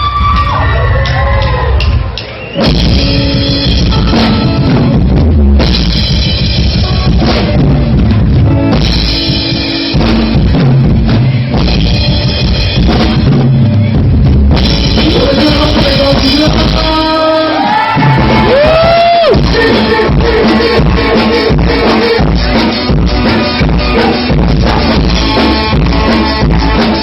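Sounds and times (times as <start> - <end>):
drum kit beat: 0.0 - 27.0
ska band music: 0.0 - 27.0.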